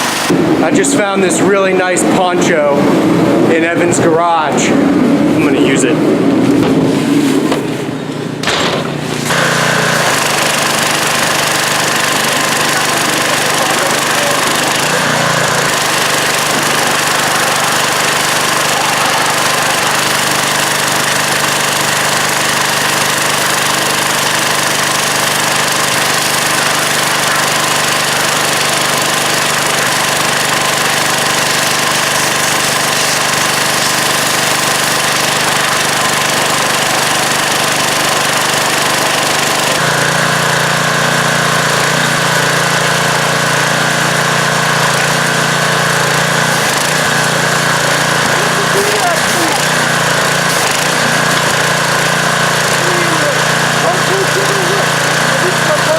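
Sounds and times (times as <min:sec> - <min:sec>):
pressure washer running: 0:00.0 - 0:55.9.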